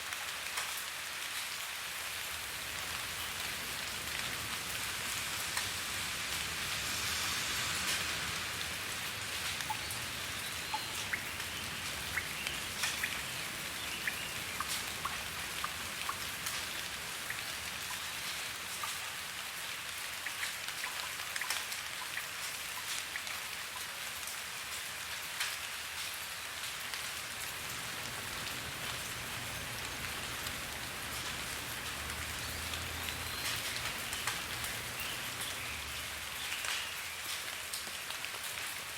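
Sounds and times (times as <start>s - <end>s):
raindrops pattering on a surface: 0.0s - 38.9s
steady rainfall: 0.0s - 38.9s.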